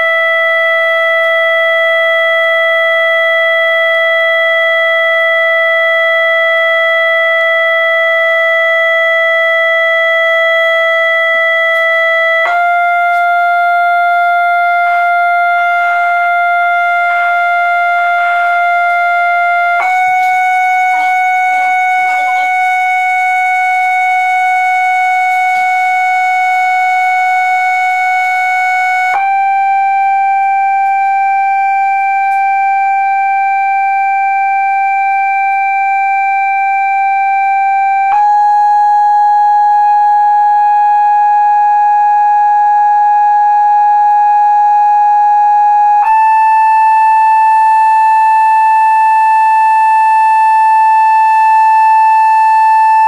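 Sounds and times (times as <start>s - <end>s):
sine-wave test tone: 0.0s - 53.0s.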